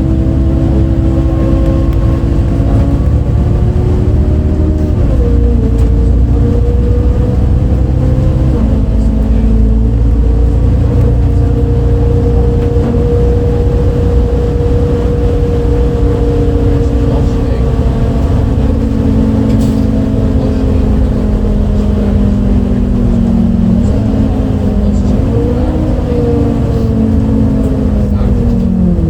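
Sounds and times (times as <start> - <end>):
bus engine rumble with whining tone: 0.0 - 29.0.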